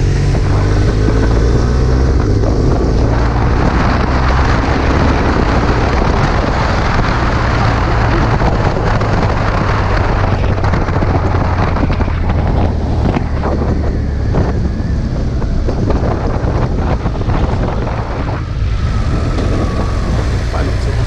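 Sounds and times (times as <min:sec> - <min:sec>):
motorcycle engine accelerating: 0:00.0 - 0:21.0
wind rushing over microphone: 0:00.0 - 0:21.0.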